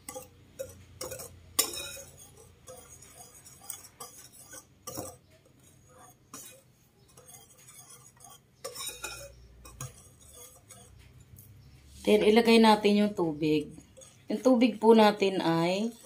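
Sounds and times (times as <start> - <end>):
whisk scraping ceramic bowl: 0.0 - 16.0.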